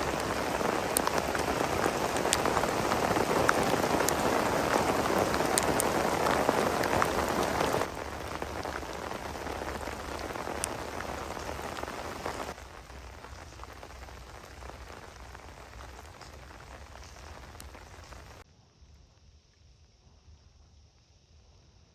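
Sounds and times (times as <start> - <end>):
heavy rain falling: 0.0 - 18.4
raindrops ticking sharply: 0.0 - 18.4.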